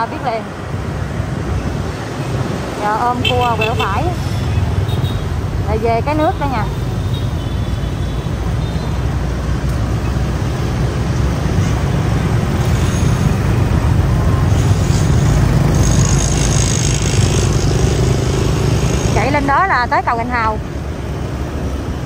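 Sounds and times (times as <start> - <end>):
motorbike engines: 0.0 - 22.0.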